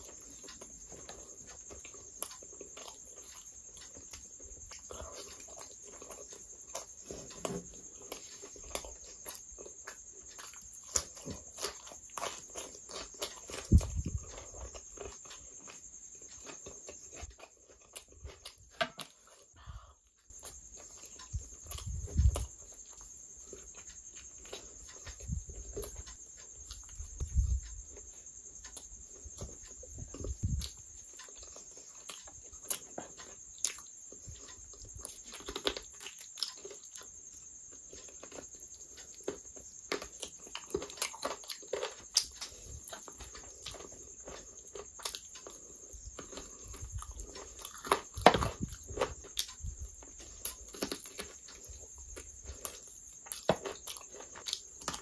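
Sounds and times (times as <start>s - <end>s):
wet chewing and lip smacking: 0.0s - 19.5s, 20.3s - 55.0s.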